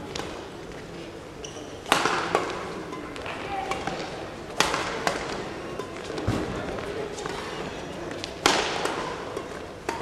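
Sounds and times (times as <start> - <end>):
rackets striking shuttlecock: 1.5 - 10.0.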